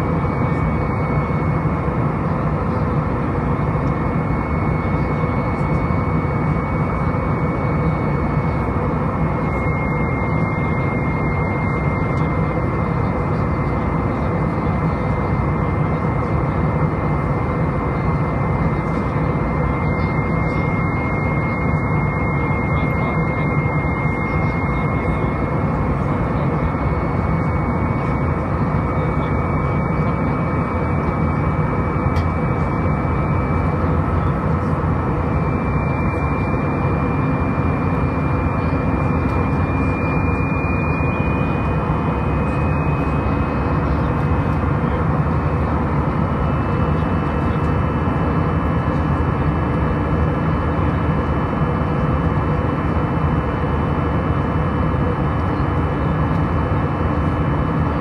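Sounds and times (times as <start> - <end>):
high engine whine: 0.0 - 58.0
jet engine and wind rush in cabin: 0.0 - 58.0.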